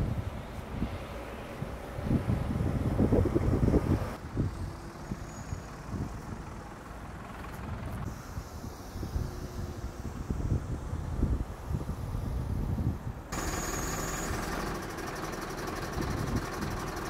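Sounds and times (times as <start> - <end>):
motorway traffic rumble: 0.0 - 17.0.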